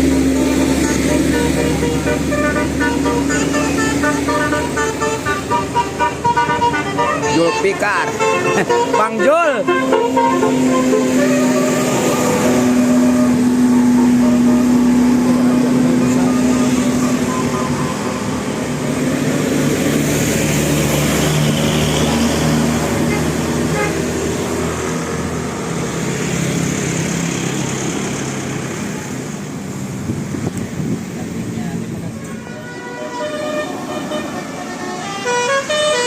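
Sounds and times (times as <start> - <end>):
bus engines humming: 0.0 - 36.0
road noise: 0.0 - 36.0.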